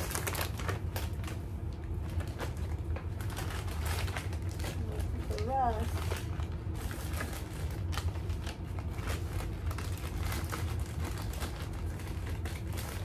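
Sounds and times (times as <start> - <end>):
plastic packets rustling and crinkling: 0.0 - 13.0
steady low hum: 0.0 - 13.0.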